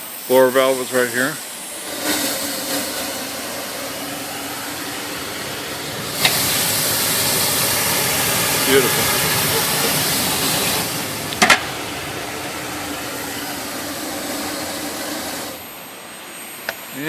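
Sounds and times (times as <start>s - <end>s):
steam hissing from boiler: 0.0s - 17.0s.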